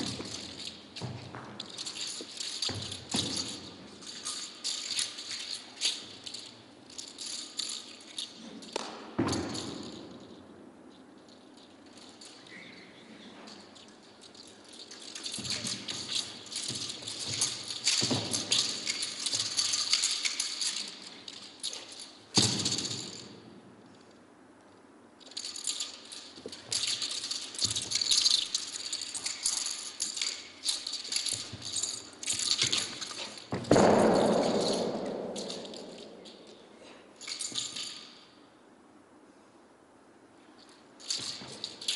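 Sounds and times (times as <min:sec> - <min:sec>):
spear rattling: 0:00.0 - 0:24.2, 0:25.2 - 0:38.4, 0:40.5 - 0:41.9.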